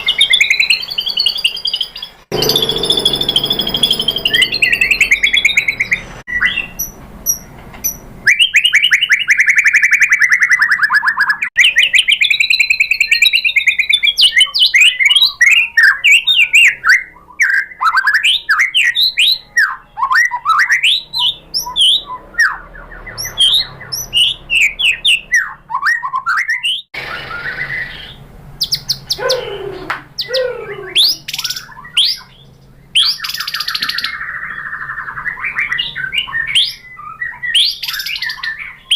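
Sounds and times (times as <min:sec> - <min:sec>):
songbird singing trills and whistles: 0:00.0 - 0:38.9.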